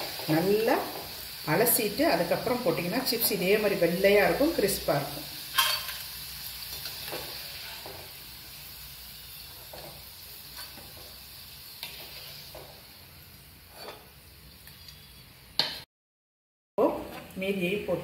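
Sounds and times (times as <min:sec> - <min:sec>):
potatoes sizzling in hot oil: 0:00.0 - 0:15.8.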